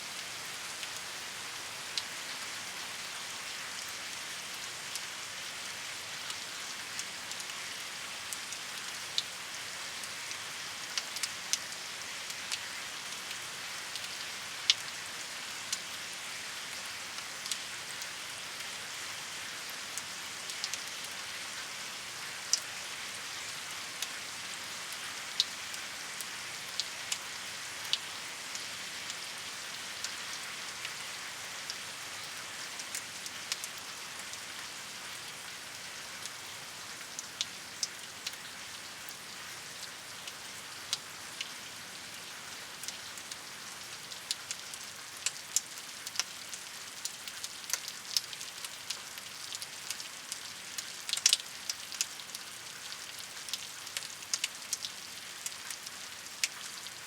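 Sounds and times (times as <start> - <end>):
steady rain hiss: 0.0 - 57.0
raindrops ticking on surface: 0.1 - 57.0.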